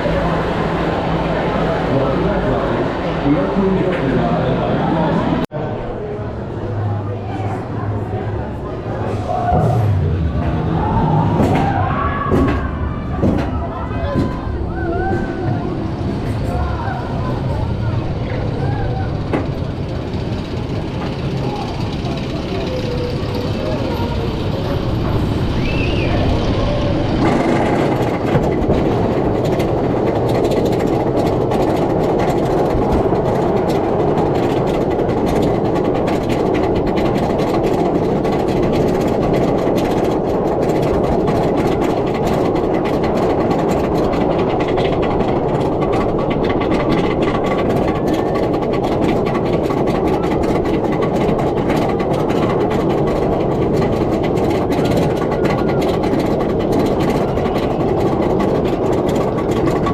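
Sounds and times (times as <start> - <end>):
roller coaster running on track: 0.0 - 59.9.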